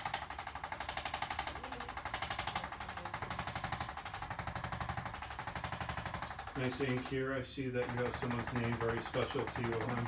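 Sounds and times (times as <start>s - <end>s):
percussion massager tapping: 0.0s - 10.0s.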